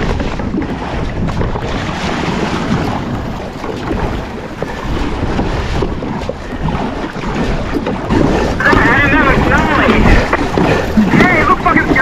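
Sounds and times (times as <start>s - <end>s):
water splashing past kayak: 0.0s - 12.0s
wind buffeting microphone: 0.0s - 12.0s.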